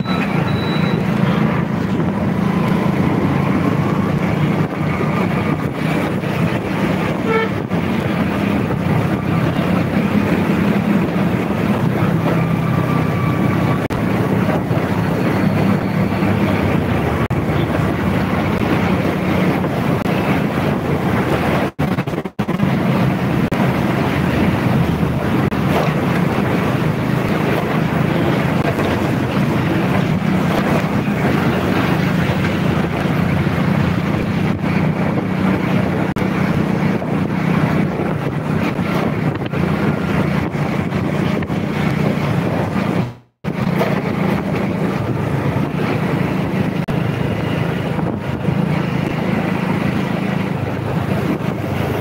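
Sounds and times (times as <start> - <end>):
wind noise on microphone: 0.0 - 52.0.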